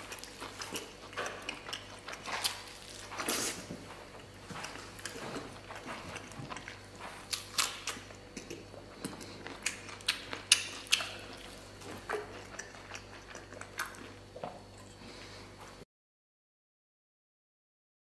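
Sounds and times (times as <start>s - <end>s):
wet chewing with mouth smacks: 0.0s - 14.8s.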